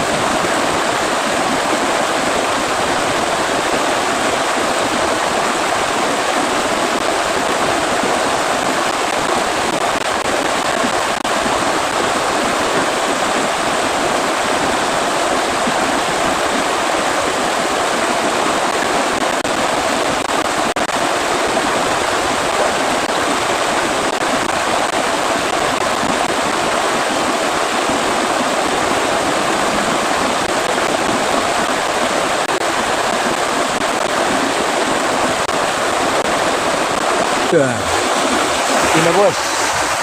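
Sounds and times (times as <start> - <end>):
rain falling steadily: 0.0 - 40.0.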